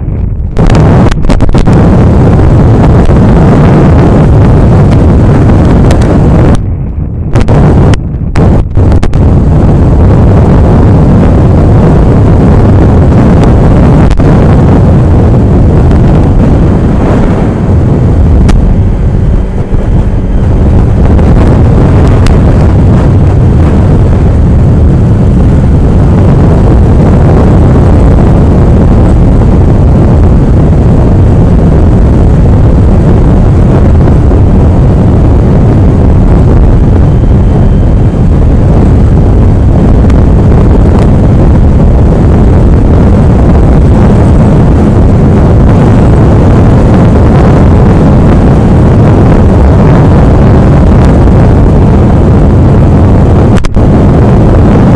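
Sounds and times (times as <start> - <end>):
strong wind buffeting microphone: 0.0 - 54.9.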